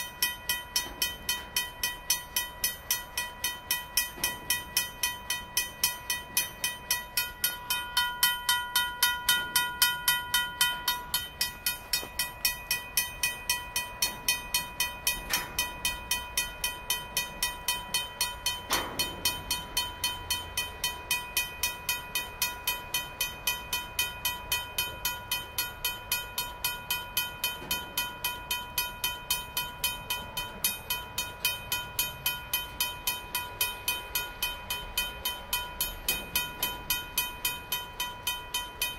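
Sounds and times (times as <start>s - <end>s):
railroad crossing bell ringing: 0.0s - 38.9s.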